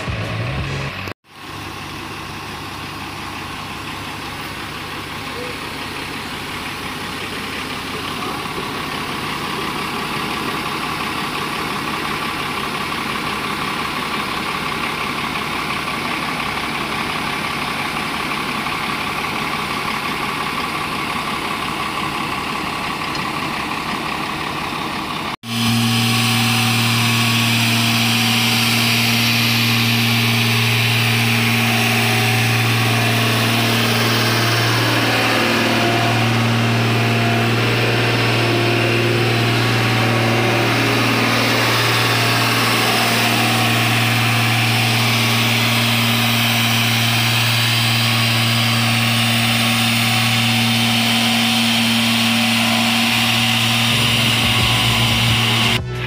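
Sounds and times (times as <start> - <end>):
excavator diesel engine idling: 0.0 - 56.0
road roller engine drone: 0.0 - 56.0.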